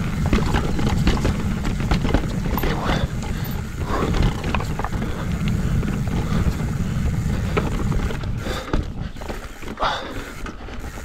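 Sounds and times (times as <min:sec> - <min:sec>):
wind rumble on microphone: 0:00.0 - 0:09.3
bike rattling over dirt: 0:00.0 - 0:11.0.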